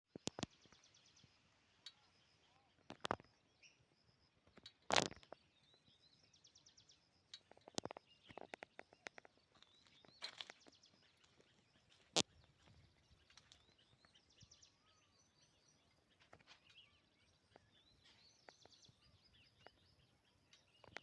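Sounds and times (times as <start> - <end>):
small birds trilling: 0.1 - 21.0.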